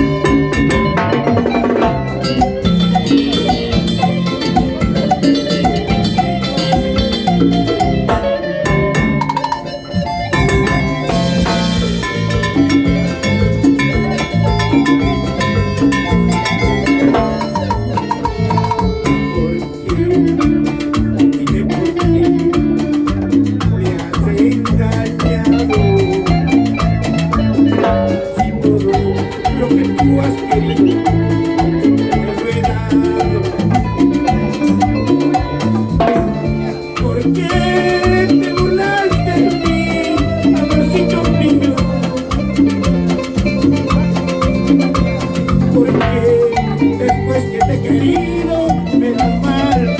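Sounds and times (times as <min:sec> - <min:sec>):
live band playing latin dance music: 0:00.0 - 0:49.9.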